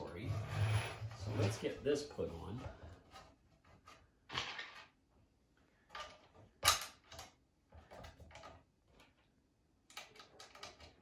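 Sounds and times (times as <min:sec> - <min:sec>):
scrapes and rattles of handling: 0:00.0 - 0:11.0.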